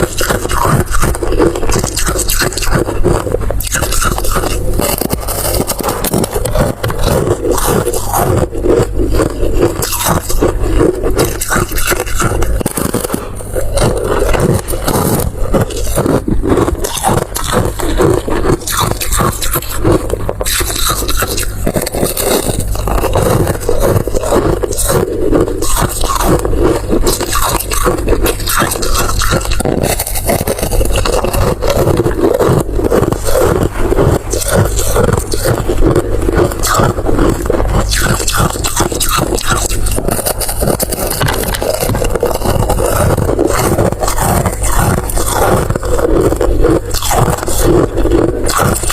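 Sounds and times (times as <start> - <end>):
chewing and crunching: 0.0 - 48.9
steady low hum: 0.0 - 48.9.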